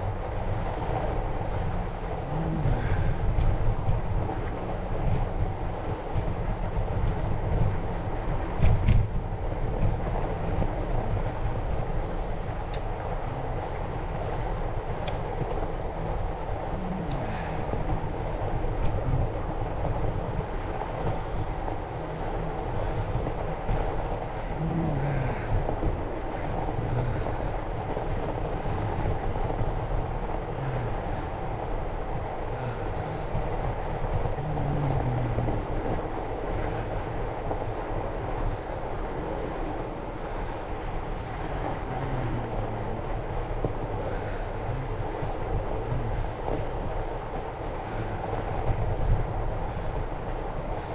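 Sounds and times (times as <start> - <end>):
bike tyres rumbling on snow: 0.0 - 50.9.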